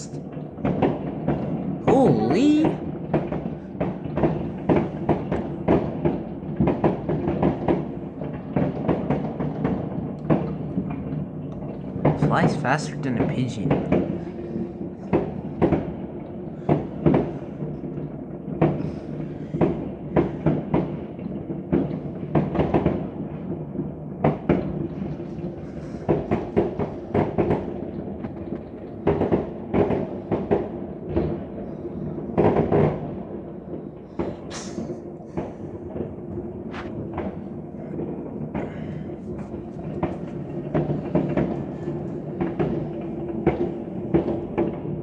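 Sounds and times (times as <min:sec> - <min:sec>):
firecrackers banging: 0:00.0 - 0:45.0
rumble of distant explosions: 0:00.0 - 0:45.0.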